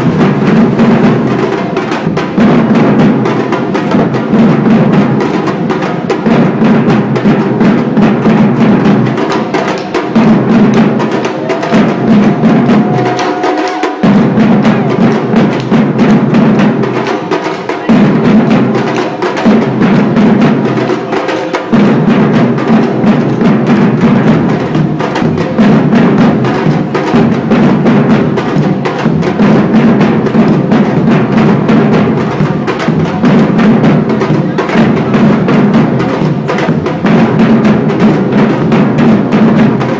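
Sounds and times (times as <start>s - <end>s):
percussion ensemble groove: 0.0s - 39.9s.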